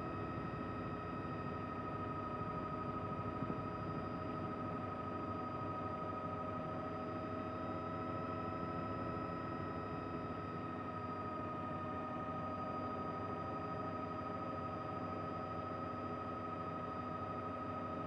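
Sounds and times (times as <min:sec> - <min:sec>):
helicopter whine and drone: 0:00.0 - 0:18.0.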